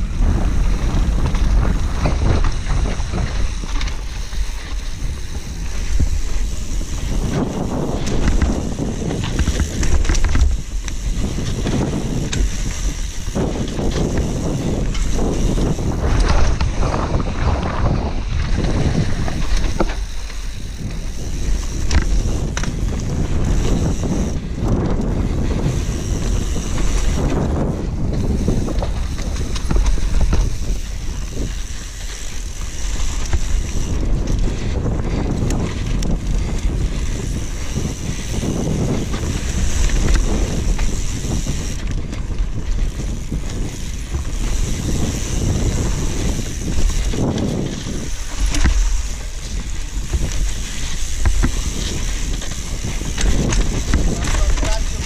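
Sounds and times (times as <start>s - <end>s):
bike clicking and rattling: 0.0s - 55.0s
tyres rolling over dirt: 0.0s - 55.0s
wind buffeting microphone: 0.0s - 55.0s.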